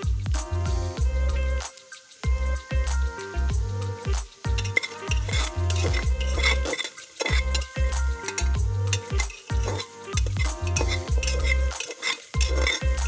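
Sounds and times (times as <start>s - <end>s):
background music with deep bass: 0.0s - 6.7s, 7.4s - 13.0s
curry sizzling in a pan: 1.6s - 13.0s.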